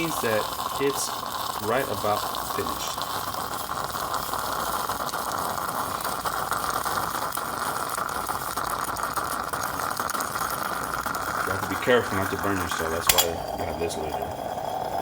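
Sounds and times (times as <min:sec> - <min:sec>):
stovetop espresso maker sputtering: 0:00.0 - 0:15.0.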